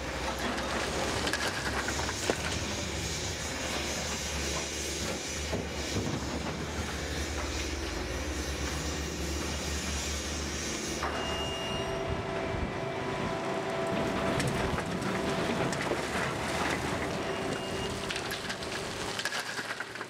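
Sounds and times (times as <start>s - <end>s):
heavy machinery whining: 0.0s - 19.8s.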